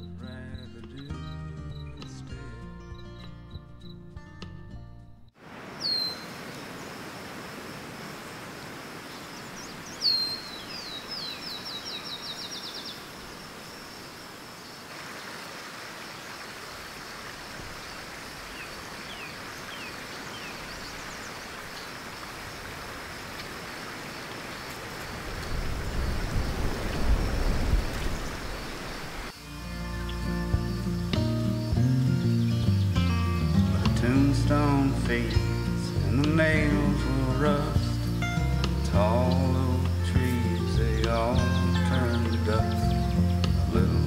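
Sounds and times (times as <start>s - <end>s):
songbird calling: 0.0s - 4.2s, 5.7s - 7.2s, 8.1s - 44.0s.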